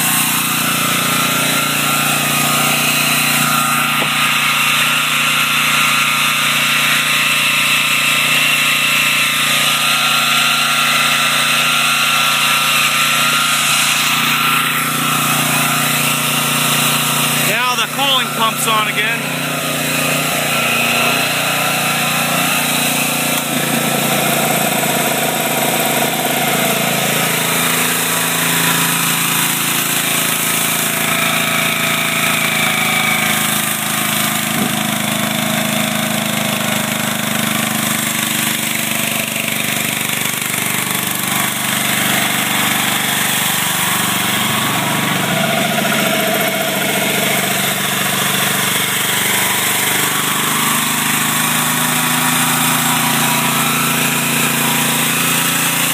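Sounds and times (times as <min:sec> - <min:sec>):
generator engine labouring: 0:00.0 - 0:55.9.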